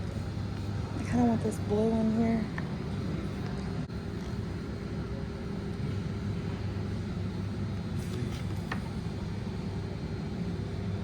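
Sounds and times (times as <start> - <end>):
low rumble of store noise: 0.0 - 11.0.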